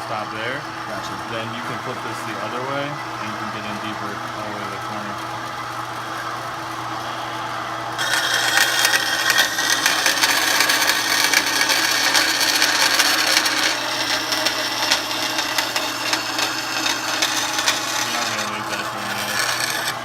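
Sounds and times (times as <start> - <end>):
band saw motor hum: 0.0 - 20.0
saw blade cutting whine: 0.0 - 20.0.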